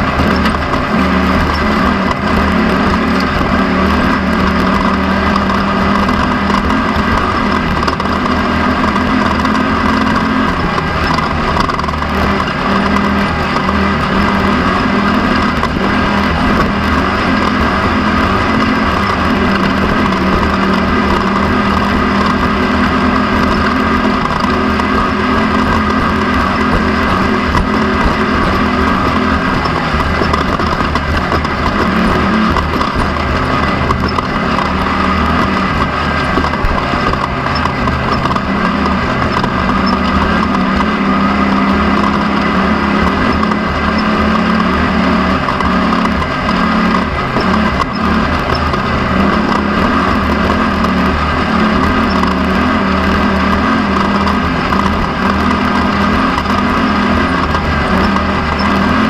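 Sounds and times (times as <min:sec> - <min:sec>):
race vehicle engine under load: 0:00.0 - 0:59.0
road and wind noise: 0:00.0 - 0:59.0.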